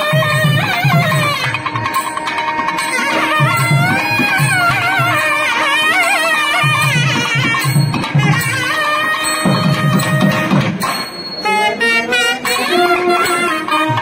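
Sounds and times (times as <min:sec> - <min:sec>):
double-reed pipe melody: 0:00.0 - 0:14.0
drum beating quick rhythm: 0:00.0 - 0:14.0.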